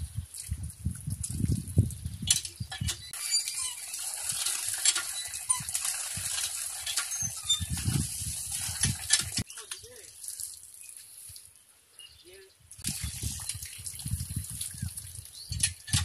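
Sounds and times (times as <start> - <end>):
water gushing from hand pump: 0.0 - 10.8, 12.8 - 16.0
water splashing on ground: 0.0 - 11.6, 12.7 - 16.0.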